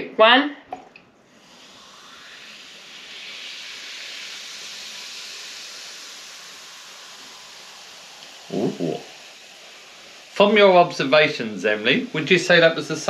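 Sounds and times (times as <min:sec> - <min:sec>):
baking soda fizzing: 0:01.3 - 0:13.0.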